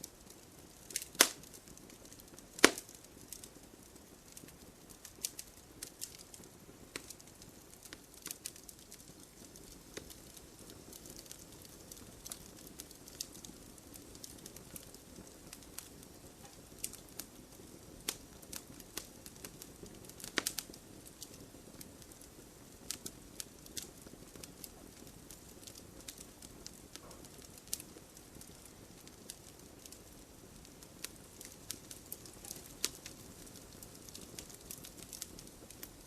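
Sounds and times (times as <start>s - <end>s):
campfire crackling and popping: 0.0s - 36.0s
soft steady hiss: 0.0s - 36.0s.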